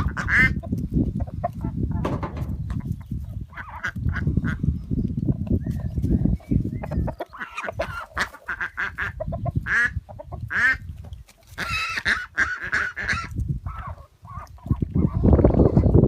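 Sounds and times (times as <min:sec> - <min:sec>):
ducks calling: 0:00.0 - 0:04.7, 0:06.3 - 0:10.9, 0:11.5 - 0:15.2.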